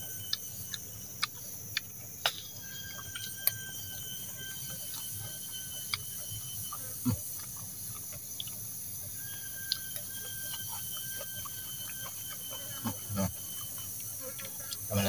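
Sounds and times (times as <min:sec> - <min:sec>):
forest insects buzzing: 0:00.0 - 0:15.0
thin steady tones: 0:00.0 - 0:15.0.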